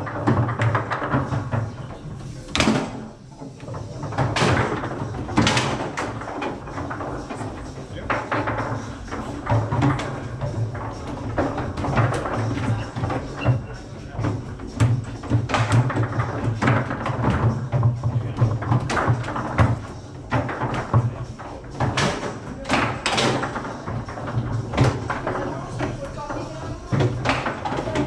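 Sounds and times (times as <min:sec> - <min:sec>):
background music: 0:00.0 - 0:28.0
foosball clacking: 0:00.0 - 0:28.0.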